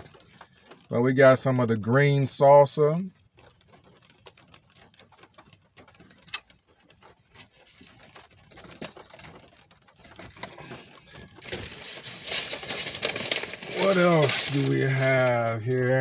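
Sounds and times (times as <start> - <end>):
rustling of things moved about: 0.0 - 16.0.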